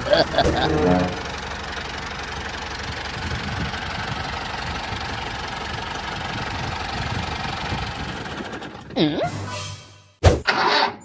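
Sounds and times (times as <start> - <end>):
small engine idling with knock: 0.0 - 9.0.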